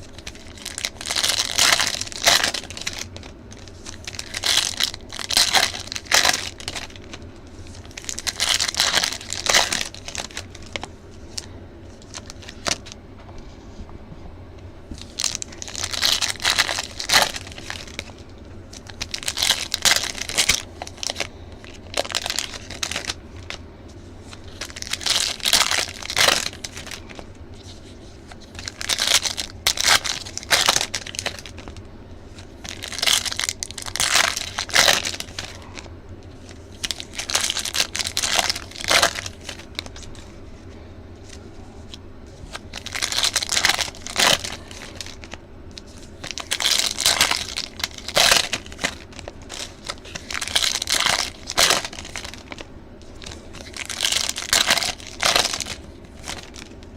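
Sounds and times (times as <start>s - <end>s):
card pack wrappers tearing and crinkling: 0.0s - 13.0s, 15.0s - 23.6s, 24.3s - 40.3s, 41.2s - 56.9s.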